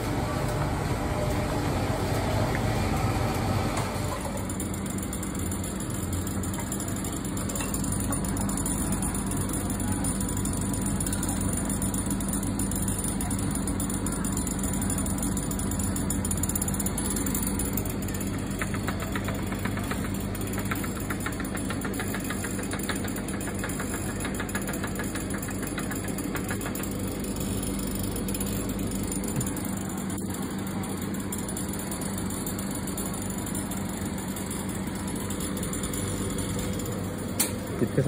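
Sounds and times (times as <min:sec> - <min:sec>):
refrigeration equipment humming: 0:00.0 - 0:38.0
fast regular ticking: 0:04.4 - 0:37.4.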